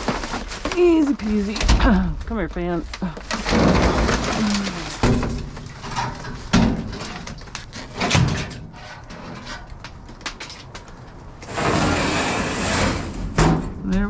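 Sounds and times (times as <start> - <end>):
fan clattering against junk: 0.0 - 11.9.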